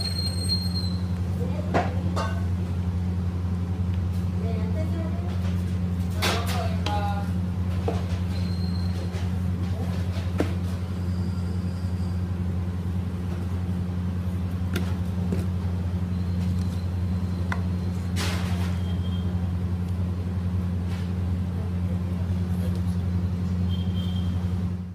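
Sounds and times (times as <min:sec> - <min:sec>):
low machine hum: 0:00.0 - 0:24.9.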